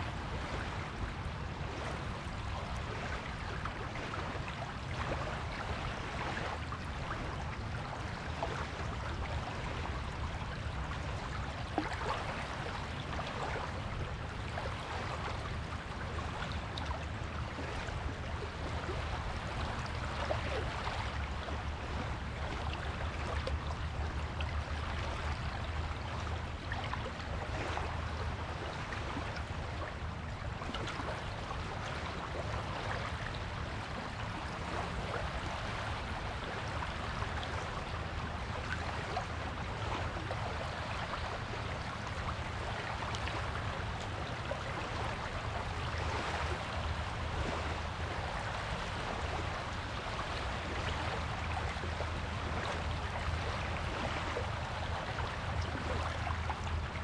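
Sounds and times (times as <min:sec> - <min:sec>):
water washing on a beach: 0:00.0 - 0:57.0.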